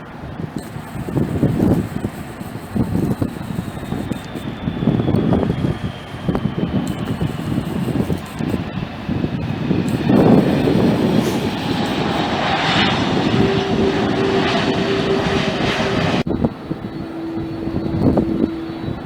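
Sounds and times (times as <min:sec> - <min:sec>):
engine whine: 0:00.0 - 0:19.0
jet engines roaring: 0:00.1 - 0:19.0
steady hum: 0:00.6 - 0:08.7, 0:09.8 - 0:19.0.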